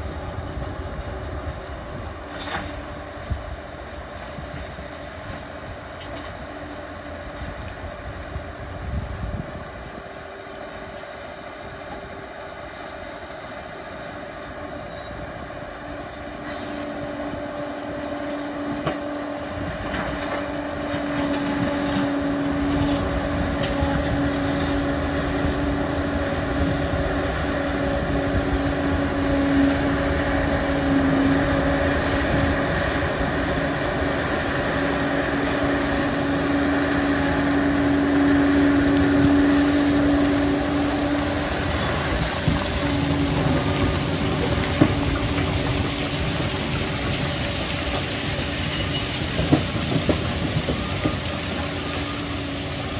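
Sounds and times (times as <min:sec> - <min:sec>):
dozer diesel engine droning: 0:09.9 - 0:52.9.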